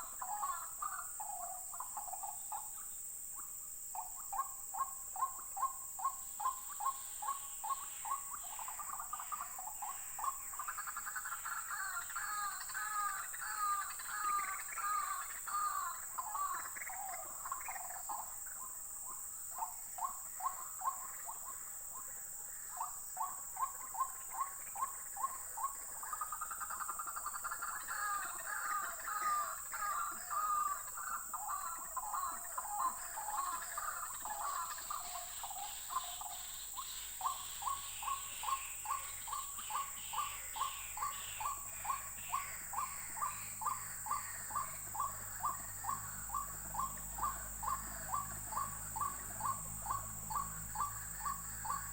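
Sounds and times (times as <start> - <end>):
birds calling harshly: 0.0 - 51.9.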